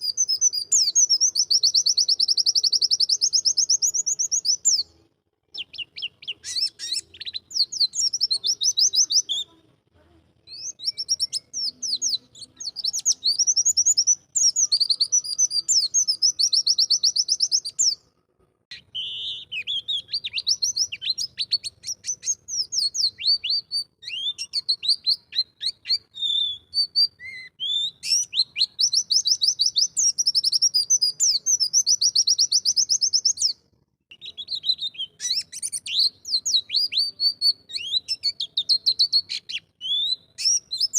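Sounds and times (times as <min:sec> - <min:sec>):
bird twittering song: 0:00.0 - 0:09.5, 0:10.4 - 0:18.1, 0:18.7 - 0:40.9.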